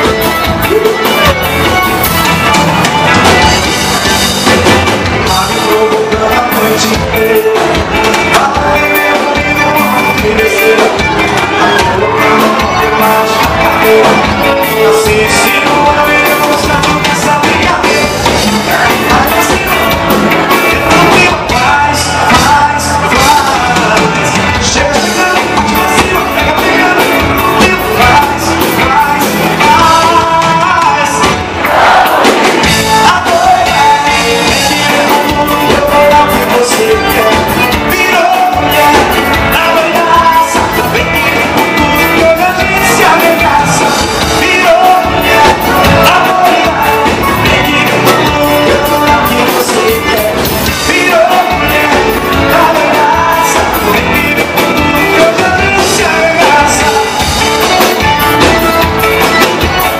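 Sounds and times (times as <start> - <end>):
drum kit beat: 0.0 - 59.9
keyboard: 0.0 - 59.9
man singing into a microphone: 0.0 - 59.9.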